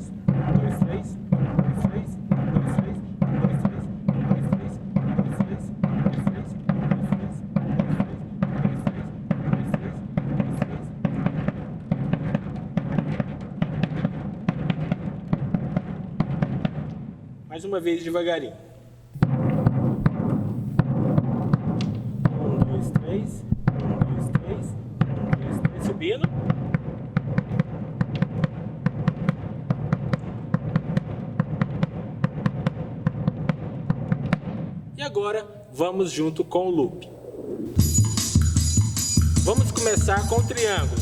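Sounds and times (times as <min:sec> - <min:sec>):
bass drum booming strokes: 0:00.0 - 0:17.3, 0:18.8 - 0:35.0, 0:36.8 - 0:41.0.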